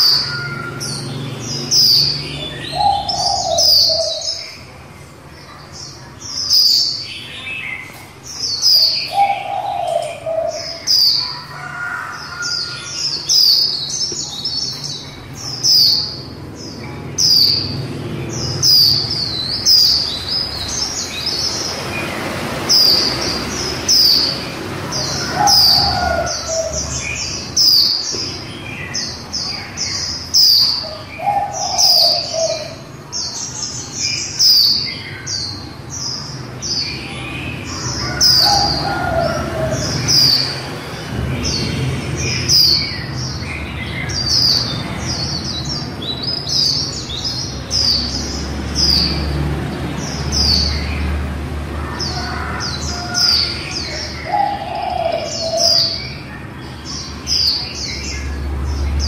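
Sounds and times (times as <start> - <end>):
bird chirping: 0.0 - 59.0.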